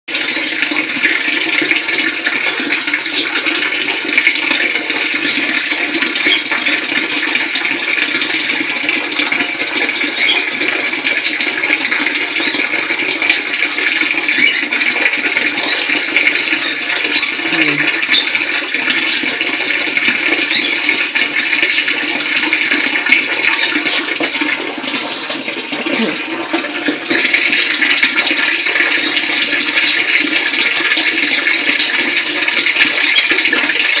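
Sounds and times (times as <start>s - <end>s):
water pouring from a tap: 0.1s - 34.0s
water splashing into a tank: 0.1s - 34.0s.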